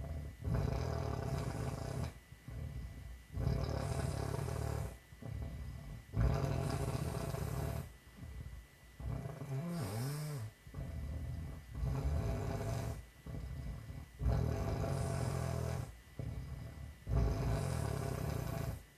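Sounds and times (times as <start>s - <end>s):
woman snoring: 0.0s - 2.7s, 3.4s - 7.9s, 9.0s - 18.8s.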